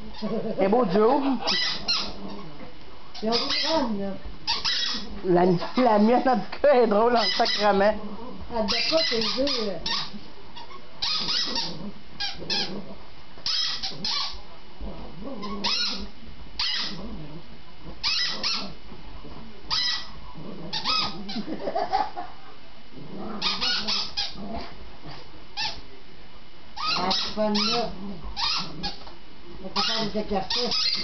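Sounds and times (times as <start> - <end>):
dogs yipping and whining: 0.0 - 6.0, 7.2 - 22.4, 23.4 - 24.7, 25.6 - 25.8, 26.8 - 29.1, 29.8 - 31.0.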